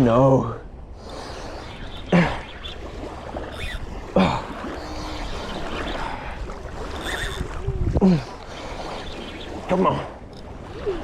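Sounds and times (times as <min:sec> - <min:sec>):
wind noise: 0:00.7 - 0:09.7
river water rushing: 0:01.0 - 0:11.0.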